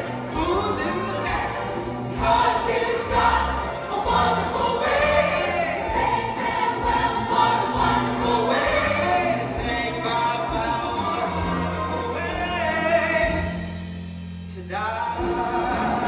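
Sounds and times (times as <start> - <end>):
choir singing: 0.0 - 13.5, 15.2 - 16.0
instrumental accompaniment: 0.0 - 16.0.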